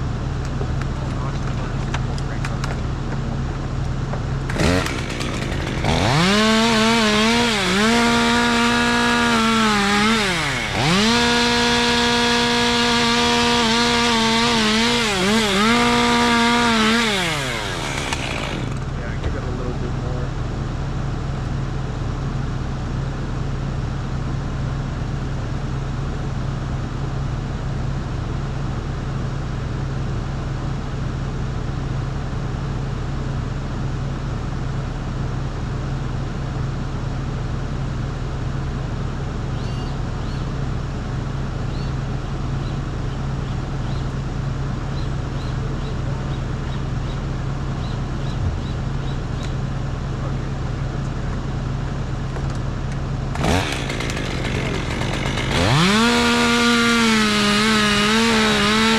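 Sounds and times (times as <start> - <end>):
engine humming steadily: 0.0 - 58.9.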